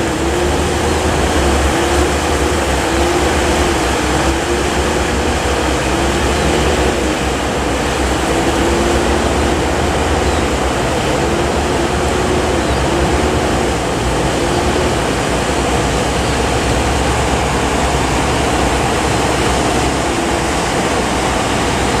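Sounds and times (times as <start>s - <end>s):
low engine drone: 0.0s - 22.0s
rush of wind and water: 0.0s - 22.0s.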